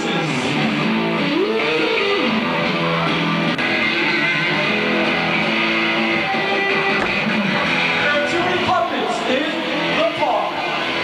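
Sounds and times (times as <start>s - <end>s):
electric guitar notes gliding: 0.0s - 11.0s.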